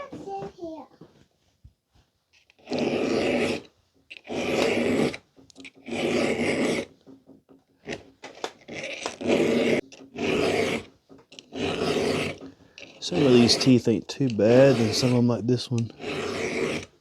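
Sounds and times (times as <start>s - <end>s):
hand file rasping on chain teeth: 2.4s - 7.0s, 7.8s - 17.0s.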